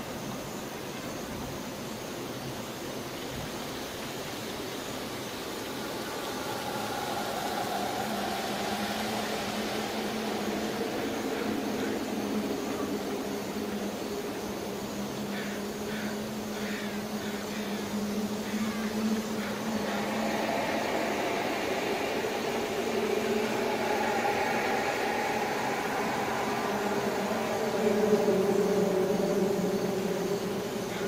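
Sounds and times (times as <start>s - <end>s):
dark ambient drone: 2.0s - 31.0s.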